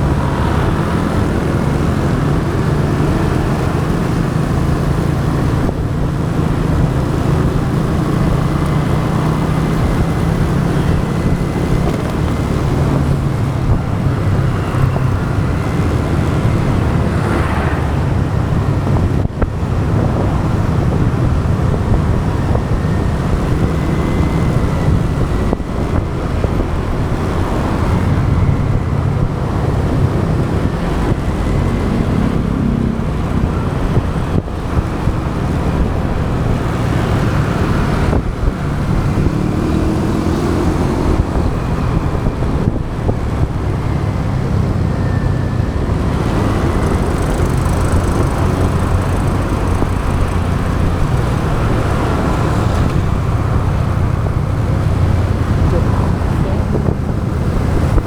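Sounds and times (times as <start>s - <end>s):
cars and trucks passing: 0.0s - 58.0s
motorbike engine drone: 0.0s - 58.0s
wind rush on microphone: 0.0s - 58.0s.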